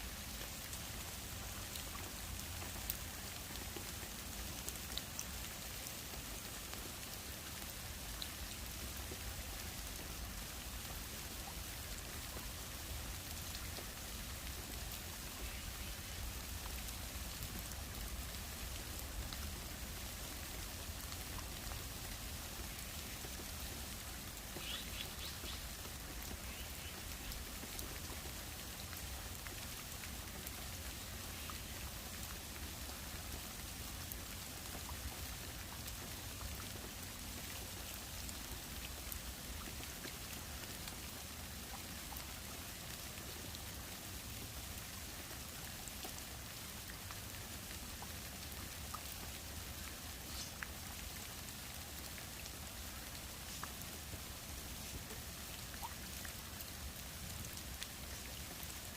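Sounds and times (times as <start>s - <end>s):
rain on foliage: 0.0s - 58.9s.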